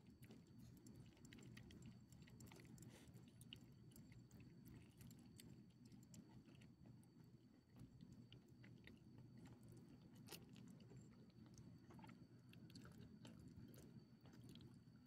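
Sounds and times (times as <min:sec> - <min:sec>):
dog chewing and licking: 0:00.0 - 0:07.0, 0:07.8 - 0:14.8.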